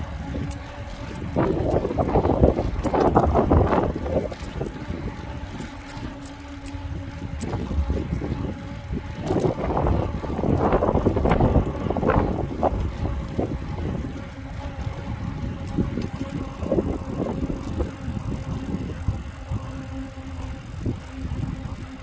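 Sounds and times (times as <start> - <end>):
bicycle tyre rumble on concrete: 0.0 - 22.0
faint steady hum: 0.0 - 22.0
wind buffeting microphone: 0.0 - 22.0.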